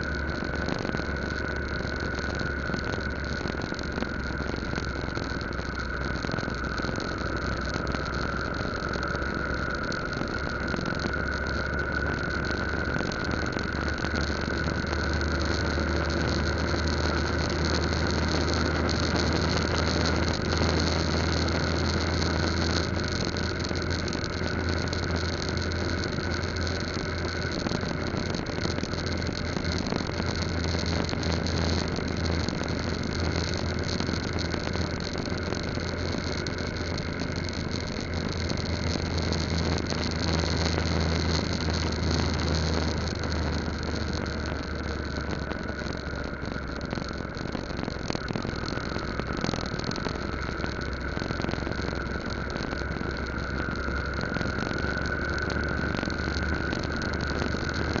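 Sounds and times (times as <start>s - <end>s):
road noise: 0.0s - 58.0s.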